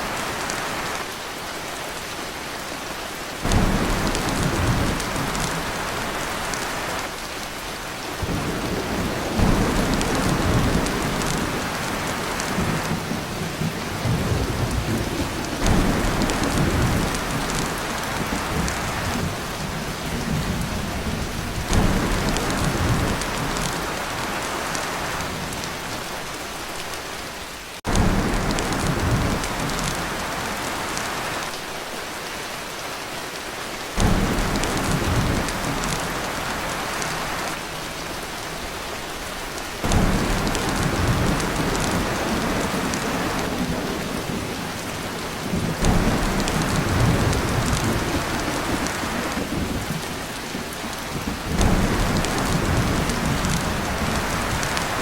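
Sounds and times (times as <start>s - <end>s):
heavy rain on a tin roof: 0.0s - 55.0s
thunder rumbles: 3.4s - 7.0s, 8.1s - 25.8s, 27.9s - 31.6s, 34.0s - 38.6s, 39.8s - 55.0s.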